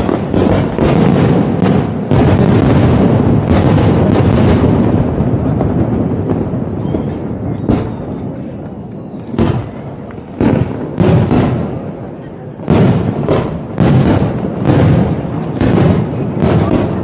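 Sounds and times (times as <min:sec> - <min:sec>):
fireworks bangs and crackle: 0:00.0 - 0:17.0
loud firework booms: 0:00.0 - 0:17.0.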